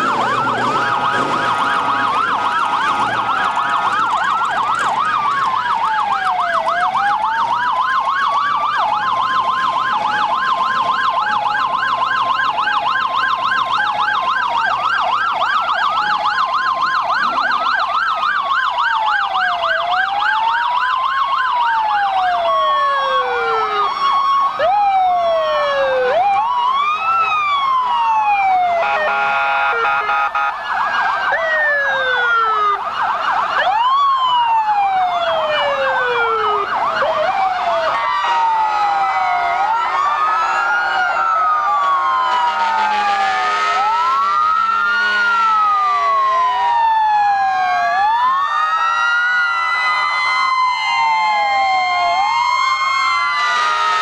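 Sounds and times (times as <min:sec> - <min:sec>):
emergency vehicle sirens: 0:00.0 - 0:54.0.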